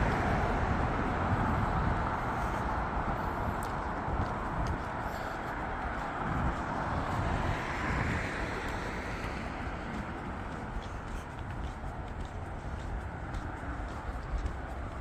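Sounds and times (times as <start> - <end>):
car passing: 0.0 - 15.0
city traffic noise: 0.0 - 15.0.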